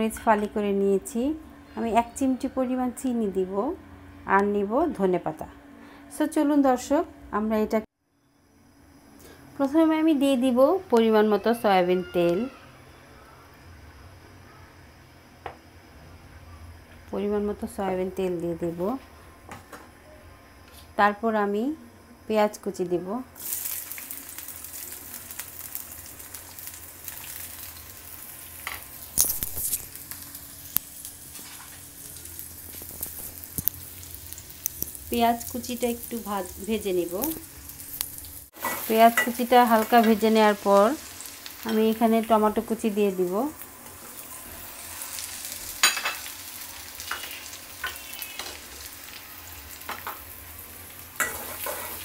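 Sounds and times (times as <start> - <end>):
onions sizzling in a wok: 0.0 - 7.7, 14.8 - 52.0.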